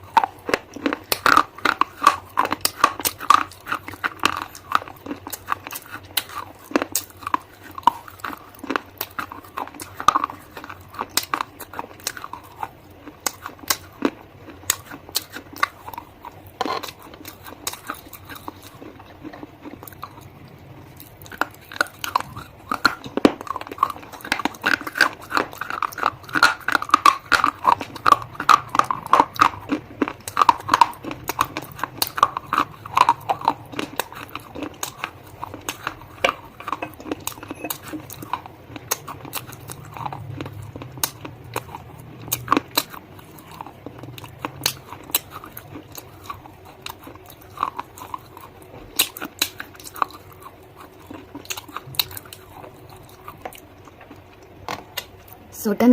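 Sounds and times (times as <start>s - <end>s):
crunchy chewing: 0.0s - 55.4s.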